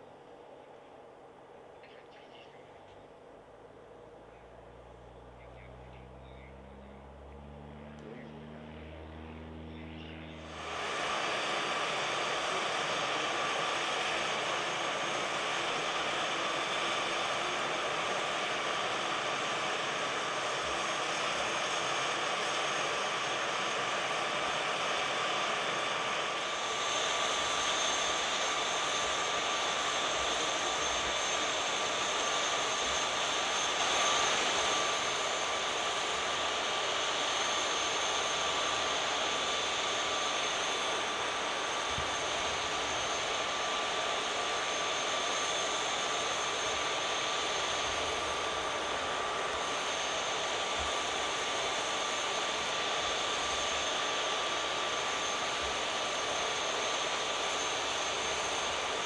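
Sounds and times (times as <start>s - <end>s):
turbine high whine: 0.0s - 59.0s
higher-pitched whine: 1.8s - 59.0s
jet turbine rushing hiss: 10.4s - 59.0s.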